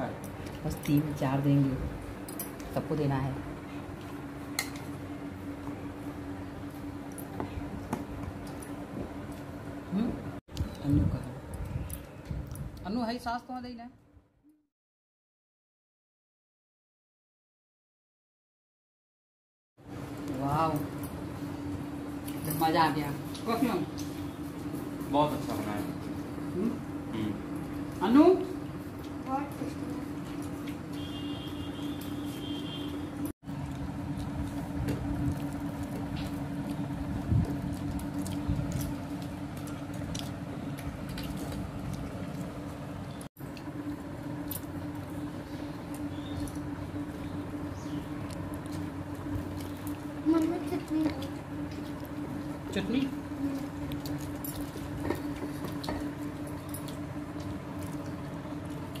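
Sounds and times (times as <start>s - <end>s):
steady background hum: 0.0s - 14.5s, 19.8s - 59.0s.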